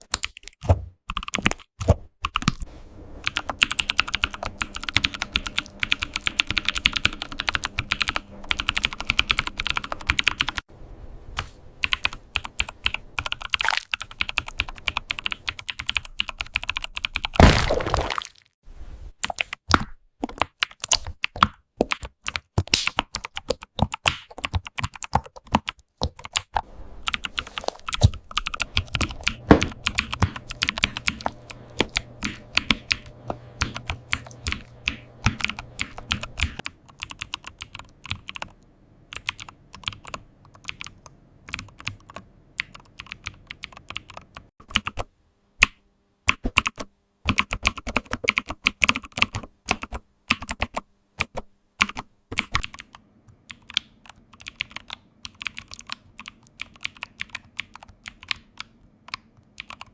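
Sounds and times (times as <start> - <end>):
computer keyboard typing: 0.0 - 2.6, 3.2 - 10.7, 11.8 - 17.4, 20.3 - 45.0, 46.3 - 59.9.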